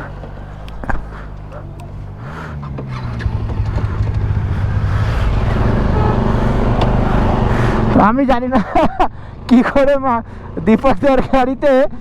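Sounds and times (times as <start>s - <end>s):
wind and road noise: 0.0s - 12.0s
motorcycle engine running: 0.1s - 11.1s.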